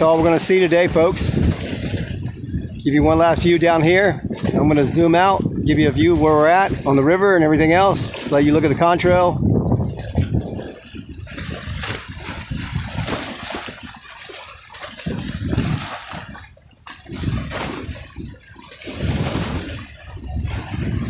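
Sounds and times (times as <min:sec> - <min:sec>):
water lapping at shore: 0:00.0 - 0:21.0.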